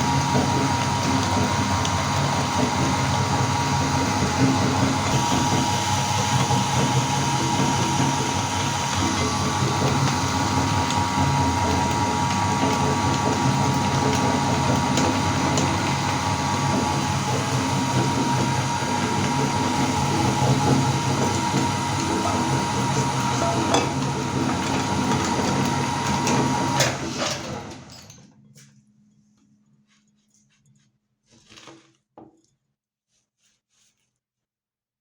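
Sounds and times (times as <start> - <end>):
electric meat grinder running: 0.0 - 28.2.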